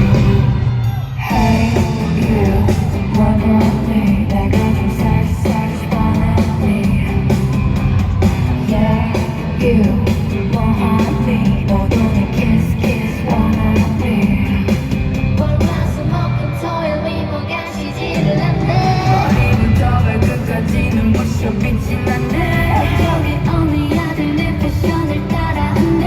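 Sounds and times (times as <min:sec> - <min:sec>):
pop song with band over speakers: 0:00.0 - 0:26.0.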